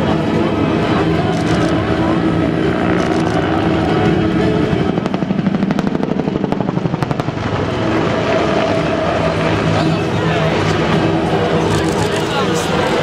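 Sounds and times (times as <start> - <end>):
helicopter turbine and rotor: 0.0 - 13.0.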